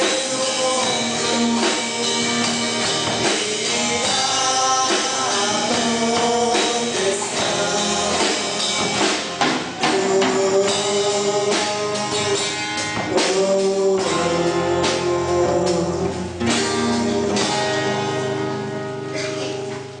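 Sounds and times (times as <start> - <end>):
man and woman singing: 0.0 - 18.1
acoustic guitar strumming: 0.0 - 20.0.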